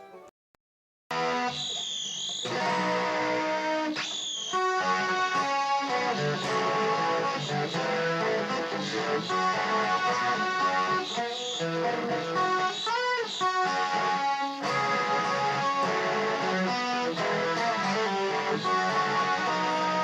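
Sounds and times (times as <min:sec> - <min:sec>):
electric guitar melody: 0:01.1 - 0:20.0.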